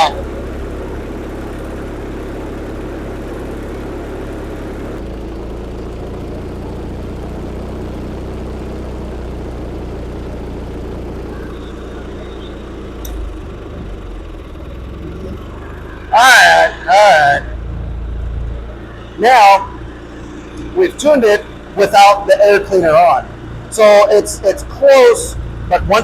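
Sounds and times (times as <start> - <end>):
riding mower engine running: 0.0 - 26.0.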